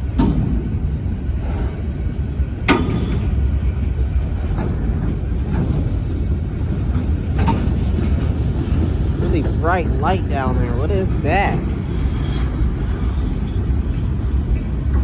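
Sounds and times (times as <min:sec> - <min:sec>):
freight train rumbling past: 0:00.0 - 0:15.0
train clanks: 0:00.0 - 0:15.0.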